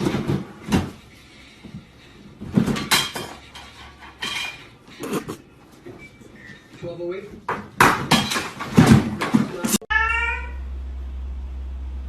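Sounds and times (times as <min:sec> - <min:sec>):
knocks and clatters of objects: 0:00.0 - 0:09.8.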